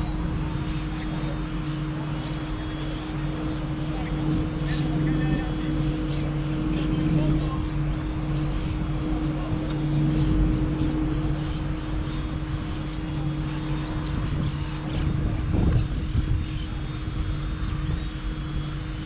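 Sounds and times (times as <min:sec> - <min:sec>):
low motor drone: 0:00.0 - 0:19.0.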